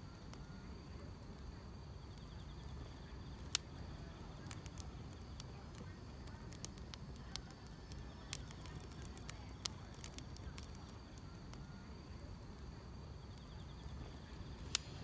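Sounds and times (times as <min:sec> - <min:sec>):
insects chirping: 0:00.0 - 0:15.0
wood fire crackling: 0:00.0 - 0:15.0.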